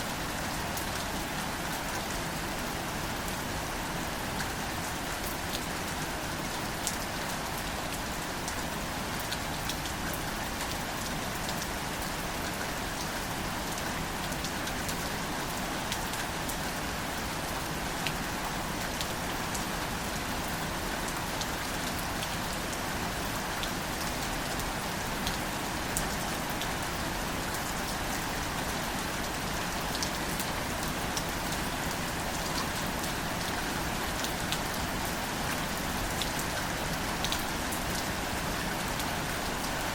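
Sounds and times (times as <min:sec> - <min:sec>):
gentle rain on plants: 0:00.0 - 0:39.9.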